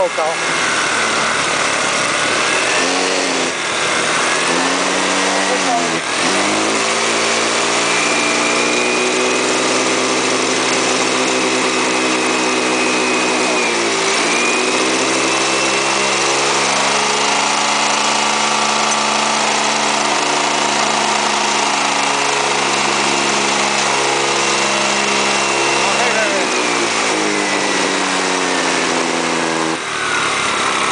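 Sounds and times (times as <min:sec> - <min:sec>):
motorcycle engine at high revs: 0:00.0 - 0:30.9.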